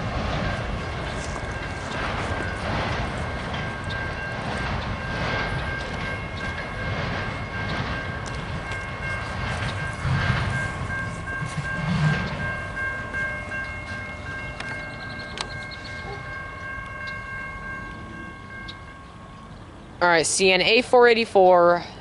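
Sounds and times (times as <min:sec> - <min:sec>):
freight train rolling past: 0:00.0 - 0:22.0
high-pitched ringing tones: 0:00.6 - 0:20.9.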